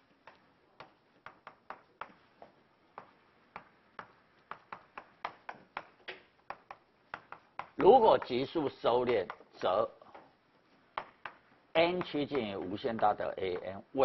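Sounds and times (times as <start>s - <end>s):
chalk tapping on chalkboard: 0.1s - 13.8s.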